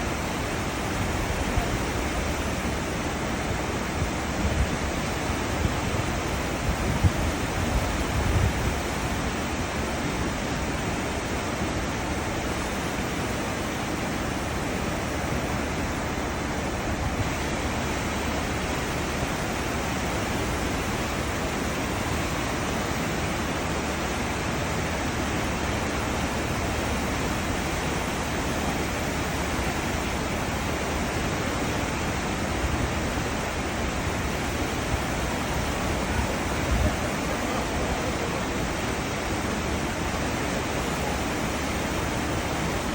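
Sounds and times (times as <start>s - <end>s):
churning seawater rushing: 0.0s - 42.9s.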